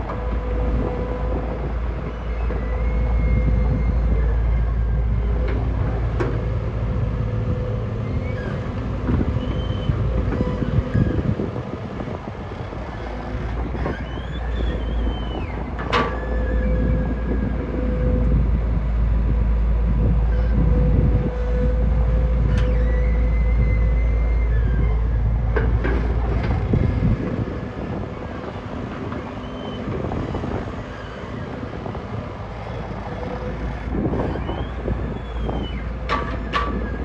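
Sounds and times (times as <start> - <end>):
heavy machinery diesel rumble: 0.0 - 37.0
steady machine whine: 0.0 - 37.0.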